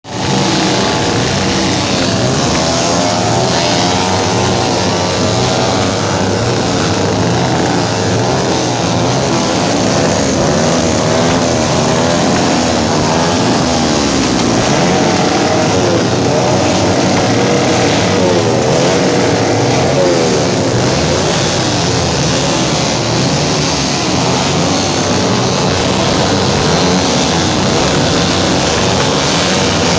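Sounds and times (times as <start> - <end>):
motorcycles revving: 0.0 - 29.9.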